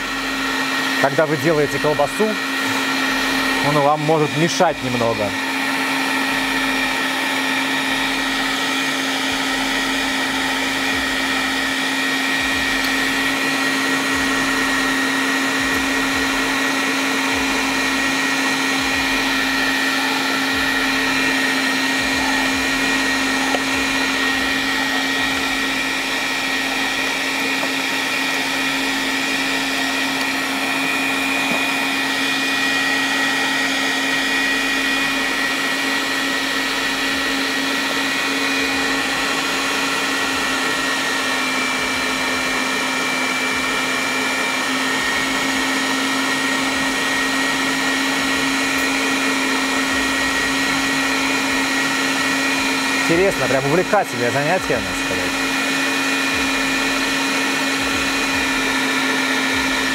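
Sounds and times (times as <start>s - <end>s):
electric meat grinder running: 0.0s - 59.9s.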